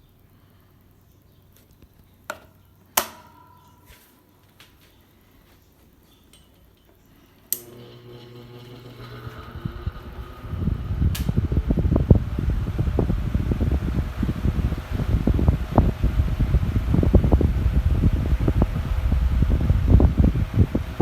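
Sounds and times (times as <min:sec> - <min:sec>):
fan motor humming: 0:00.2 - 0:21.0.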